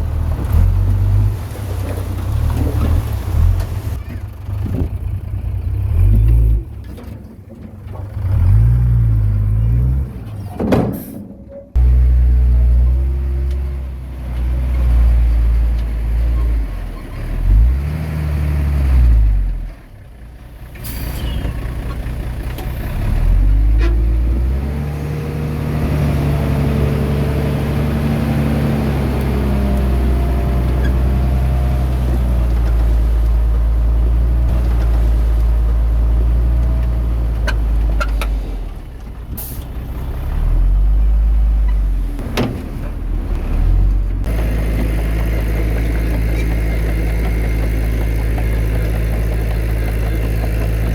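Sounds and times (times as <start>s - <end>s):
diesel engines revving: 0.0s - 7.2s, 7.8s - 50.9s.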